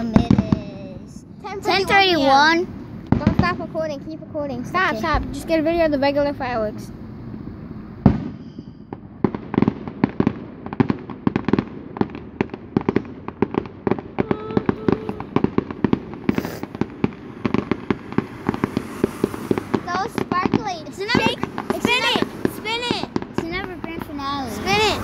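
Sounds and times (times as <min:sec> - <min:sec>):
firework bang: 0:00.0 - 0:04.1, 0:06.9 - 0:25.0
fireworks crackling: 0:00.0 - 0:25.0.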